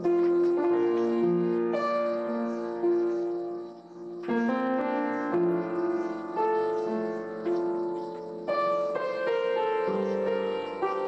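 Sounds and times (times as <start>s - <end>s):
instrumental music with sustained notes: 0.0s - 11.0s.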